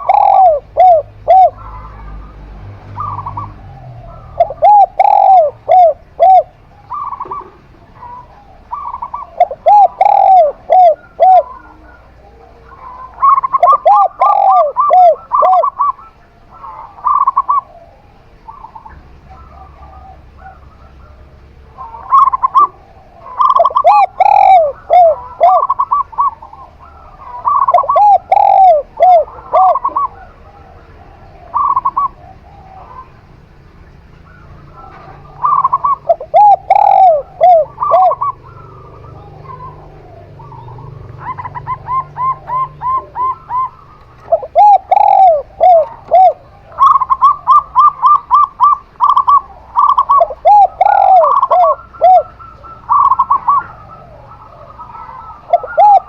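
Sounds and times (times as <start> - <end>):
high-pitched dove cooing: 0.0 - 56.0
low-pitched dove cooing: 0.0 - 56.0.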